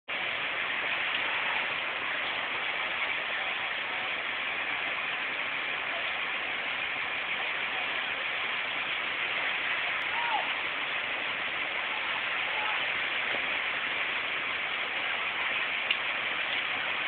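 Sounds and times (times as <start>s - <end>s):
large fire burning: 0.1s - 17.0s.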